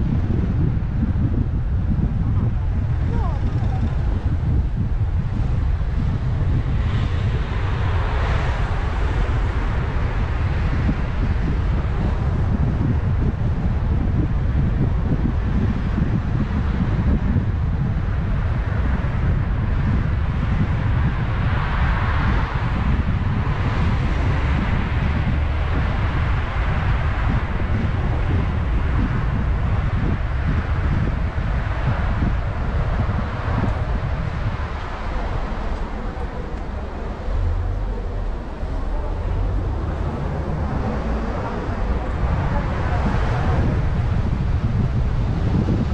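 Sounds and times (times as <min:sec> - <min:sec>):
tyres and engine rumble: 0:00.0 - 0:45.9
wind buffeting microphone: 0:00.0 - 0:45.9.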